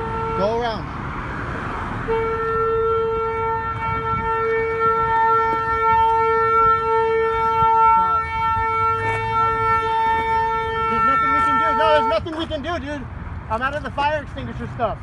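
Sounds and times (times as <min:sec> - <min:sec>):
truck horn continuous note: 0:00.0 - 0:12.6.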